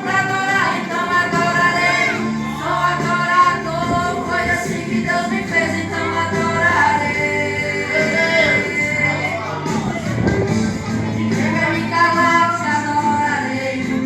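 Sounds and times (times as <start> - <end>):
women singing a hymn: 0.0 - 14.0.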